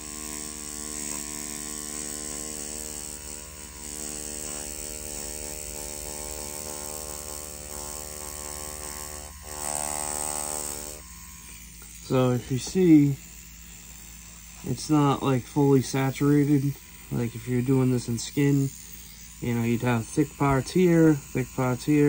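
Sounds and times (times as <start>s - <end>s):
tattoo machine motor hum: 0.0s - 22.0s.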